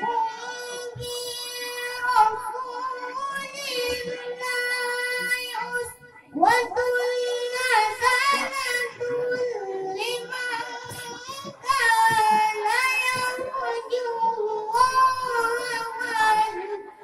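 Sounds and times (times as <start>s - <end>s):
child chanting melodically: 0.0s - 17.0s.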